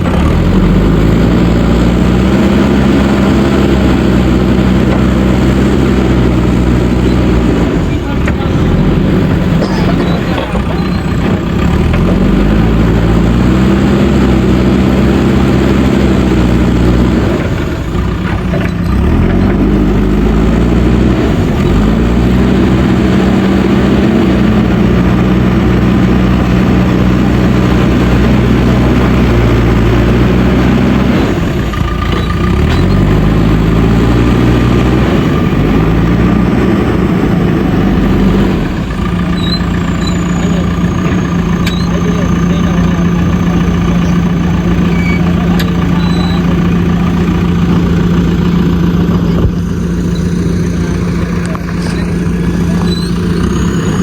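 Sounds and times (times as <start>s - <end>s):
backhoe diesel engine revving: 0.0s - 54.0s.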